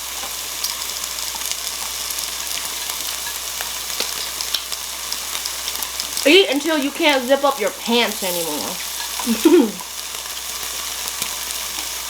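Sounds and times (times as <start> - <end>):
meat sizzling on a grill plate: 0.0 - 12.0.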